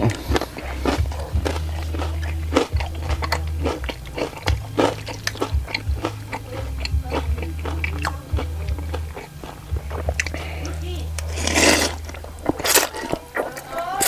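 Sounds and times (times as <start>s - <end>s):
crunchy food chewing: 0.0s - 14.0s
wet mouth sounds: 0.0s - 14.0s.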